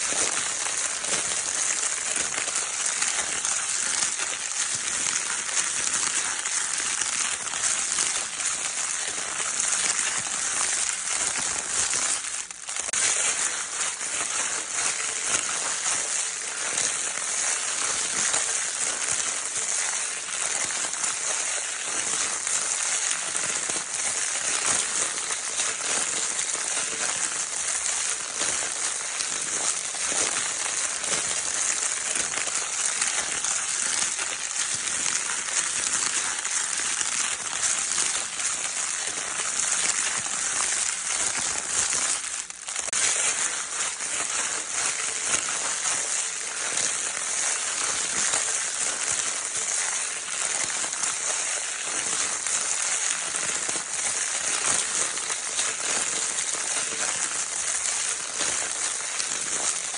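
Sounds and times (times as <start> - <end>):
crinkle paper crumpled and rustled: 0.0 - 59.9.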